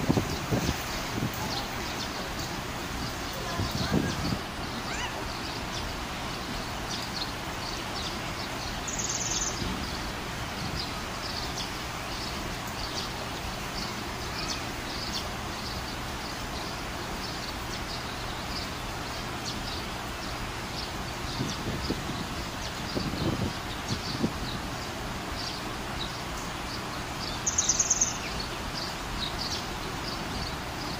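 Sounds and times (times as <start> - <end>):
light rain falling: 0.0 - 30.9.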